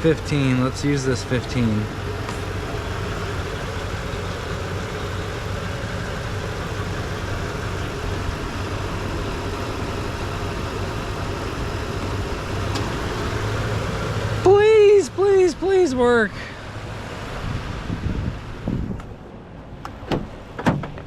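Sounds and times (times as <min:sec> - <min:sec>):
vehicle engine idling: 0:00.0 - 0:20.5.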